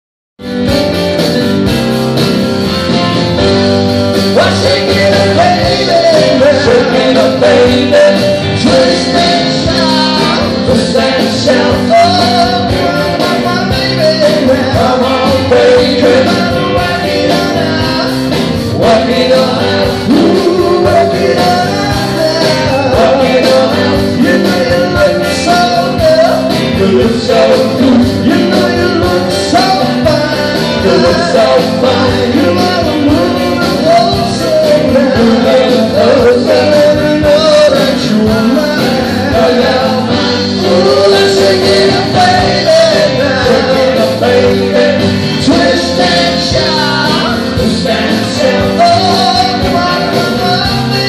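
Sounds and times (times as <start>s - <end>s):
rock band playing live: 0.4s - 51.0s
person singing: 4.2s - 51.0s.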